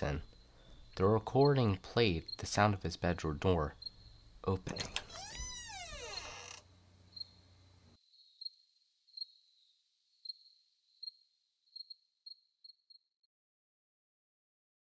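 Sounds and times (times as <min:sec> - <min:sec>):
faint cricket chirps: 0:00.0 - 0:02.8, 0:03.6 - 0:13.1.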